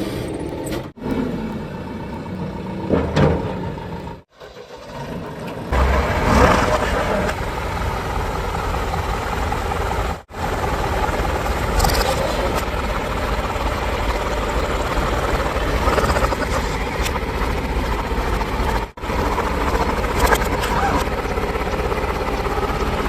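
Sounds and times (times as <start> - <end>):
diesel machinery rumbling: 0.0 - 23.0.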